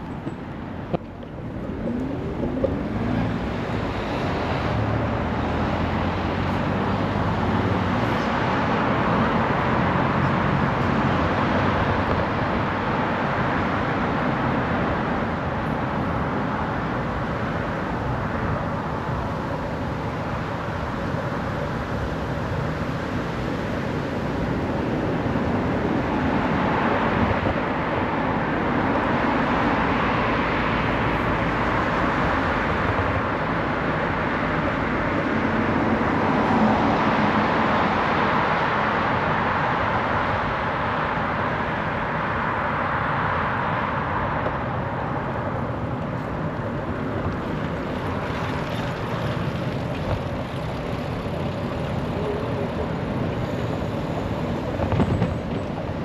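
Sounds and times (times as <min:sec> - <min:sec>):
city traffic rushing: 0:00.0 - 0:56.0.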